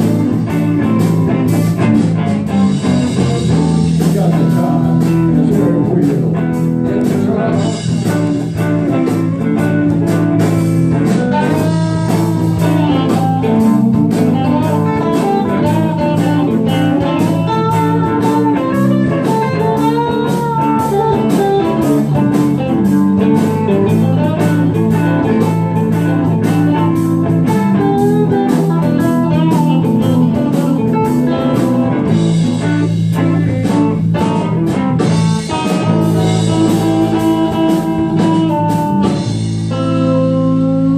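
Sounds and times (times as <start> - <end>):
bass guitar: 0.0 - 40.9
drum kit: 0.0 - 40.9
electric guitar lines: 0.0 - 40.9.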